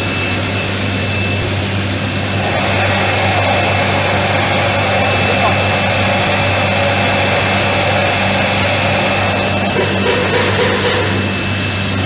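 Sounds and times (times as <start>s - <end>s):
machine mechanical hum: 0.0s - 12.0s
loud even hiss: 0.9s - 12.0s.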